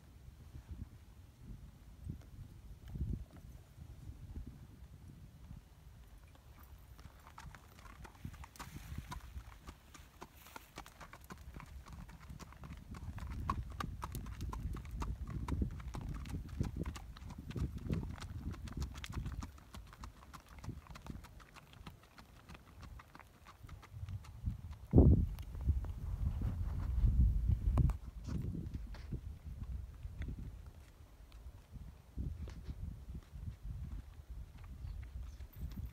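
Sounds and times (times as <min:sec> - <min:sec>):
horse hooves clip-clopping on gravel: 0:05.5 - 0:35.9.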